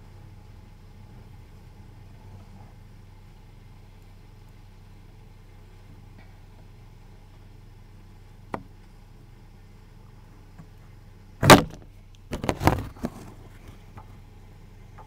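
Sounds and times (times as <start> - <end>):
diesel engine idling: 0.0 - 12.4, 13.2 - 15.0.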